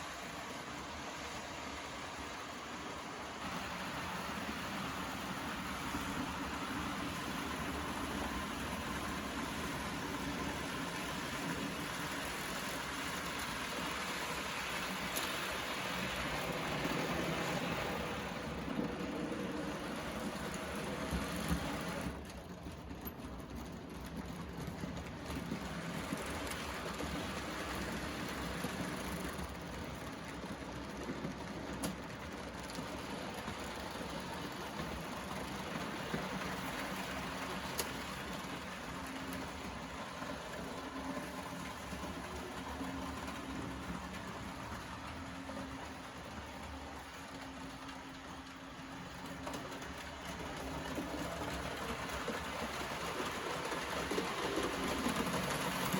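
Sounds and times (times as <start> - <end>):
model trains whirring on track: 0.0 - 55.9.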